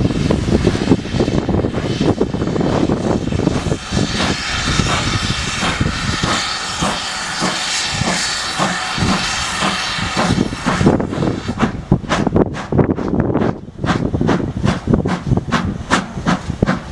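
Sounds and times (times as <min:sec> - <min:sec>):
steam hissing: 0:00.0 - 0:16.9
steam locomotive exhaust beats: 0:00.0 - 0:16.9.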